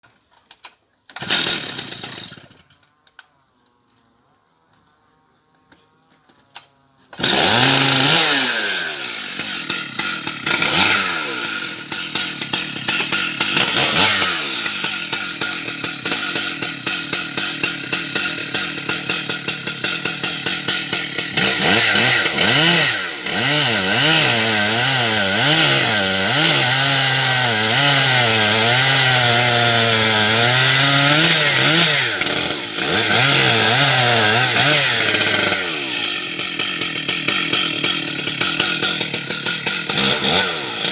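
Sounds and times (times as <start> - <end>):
chainsaw revving: 1.1 - 2.7, 7.1 - 40.9.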